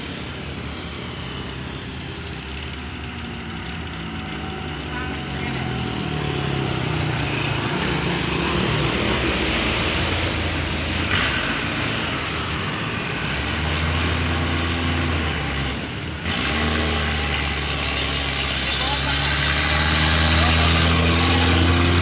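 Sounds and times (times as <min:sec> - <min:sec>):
bus diesel engines running: 0:00.0 - 0:22.0
road traffic noise: 0:00.0 - 0:22.0.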